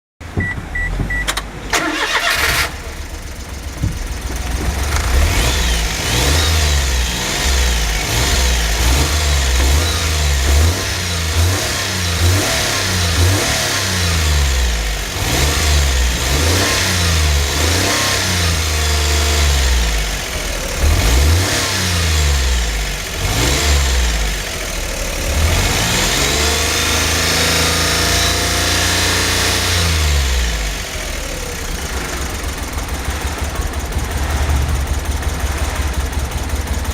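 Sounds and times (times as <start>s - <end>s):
engine starting and revving: 1.1s - 36.9s.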